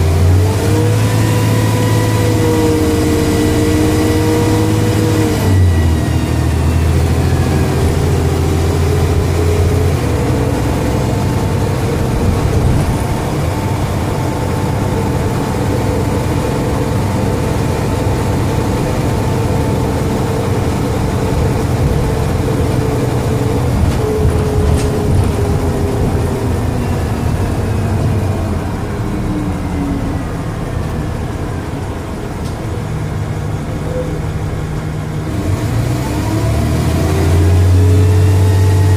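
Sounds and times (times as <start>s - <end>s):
bus engine running: 0.0s - 38.9s
high whine falling in pitch: 0.9s - 34.6s.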